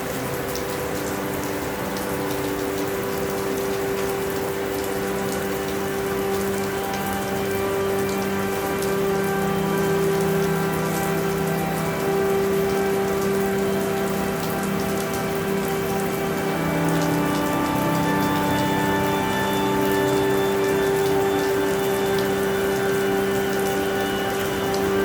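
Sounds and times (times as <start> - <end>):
rain patter: 0.0 - 25.0.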